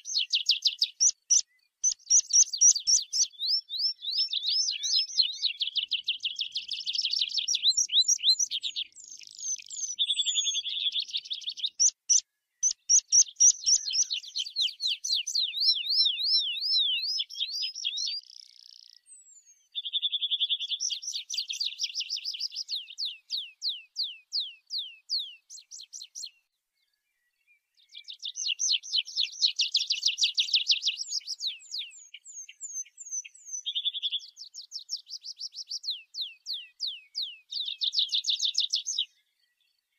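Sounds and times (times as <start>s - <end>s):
bird singing trills: 0.0s - 39.9s.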